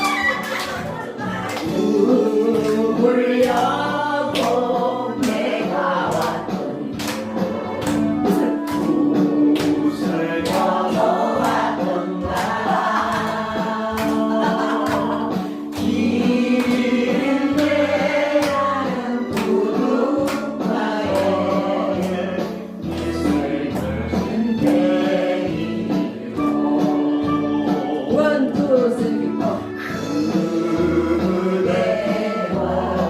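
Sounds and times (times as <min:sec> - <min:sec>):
voices singing over a beat: 0:01.2 - 0:33.0.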